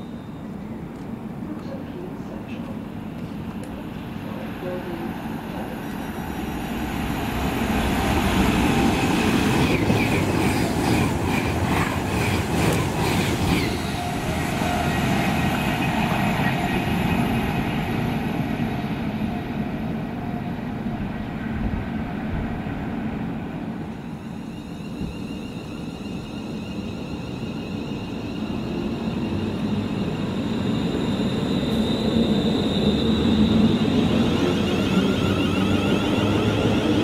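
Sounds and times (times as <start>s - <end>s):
electric train passing at speed: 0.0s - 37.0s.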